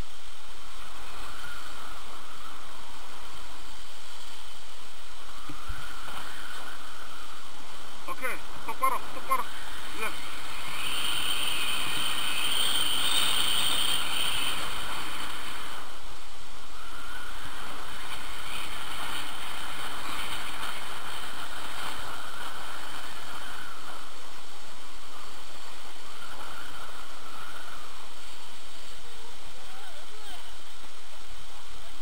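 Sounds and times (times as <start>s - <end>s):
skis sliding on snow: 0.0s - 32.0s
wind rushing over microphone: 0.0s - 32.0s.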